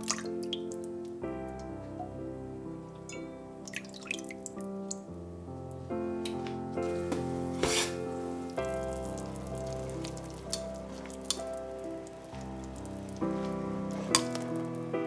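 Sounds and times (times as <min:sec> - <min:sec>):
soft instrumental music: 0:00.0 - 0:15.0.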